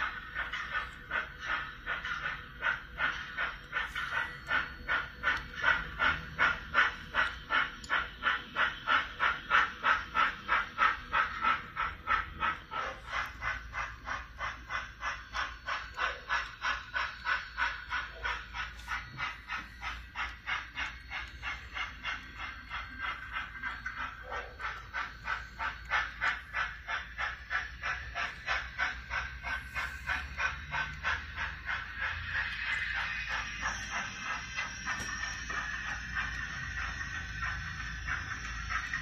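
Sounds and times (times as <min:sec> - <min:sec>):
model train clicking on track: 0:00.0 - 0:39.0.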